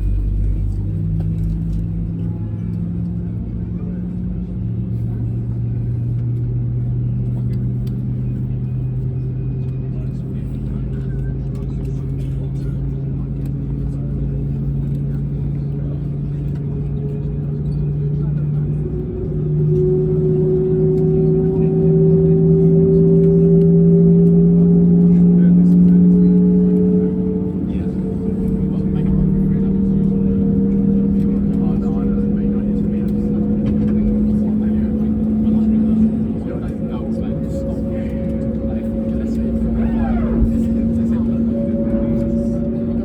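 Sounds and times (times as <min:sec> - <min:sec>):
airliner engines idling: 0:00.0 - 0:43.0.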